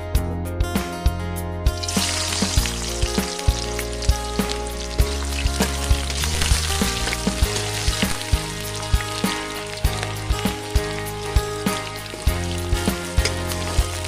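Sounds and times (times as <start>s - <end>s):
onion sizzling in hot oil: 1.8s - 14.0s.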